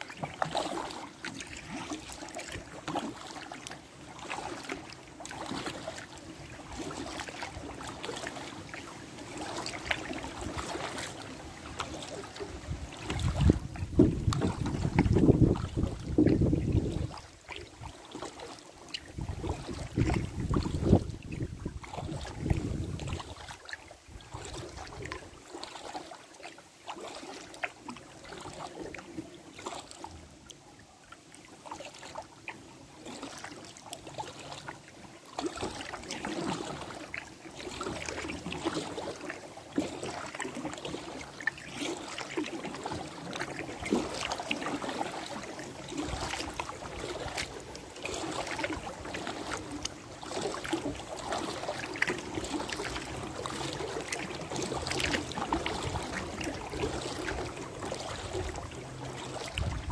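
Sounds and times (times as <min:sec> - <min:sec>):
paddle splashing in water: 0:00.0 - 0:59.9.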